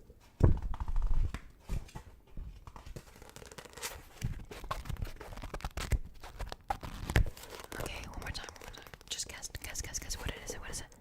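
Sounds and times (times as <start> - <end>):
book pages rustling: 0.3 - 10.8.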